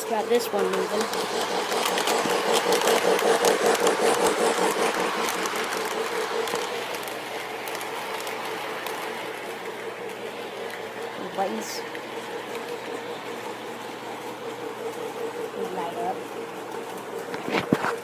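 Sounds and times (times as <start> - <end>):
train wheels rattling on track: 0.0 - 17.4
electric motor whir: 0.3 - 18.0.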